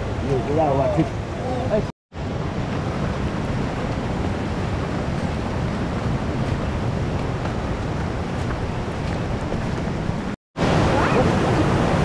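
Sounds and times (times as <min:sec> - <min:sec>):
loud steady rushing noise: 0:00.0 - 0:12.0.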